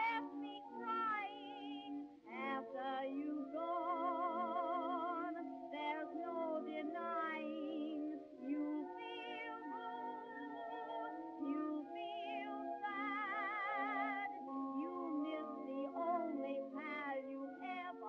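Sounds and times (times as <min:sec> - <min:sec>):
sustained wavering melodic music: 0:00.0 - 0:18.0.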